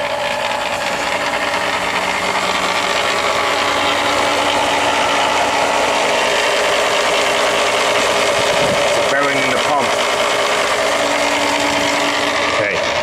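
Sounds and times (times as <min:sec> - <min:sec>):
pool pump motor with failed bearing: 0:00.0 - 0:13.0.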